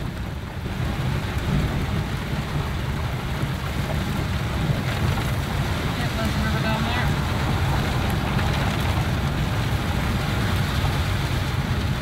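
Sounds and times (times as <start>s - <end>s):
heavy rain drumming on vehicle roof: 0.0s - 12.0s
vehicle rumbling on dirt road: 0.0s - 12.0s.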